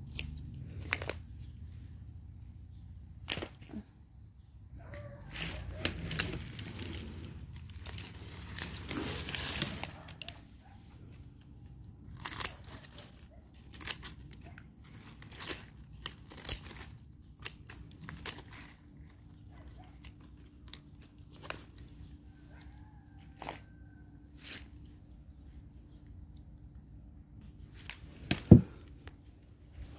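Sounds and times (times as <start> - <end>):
plant stems and leaves rustling: 0.0 - 29.9.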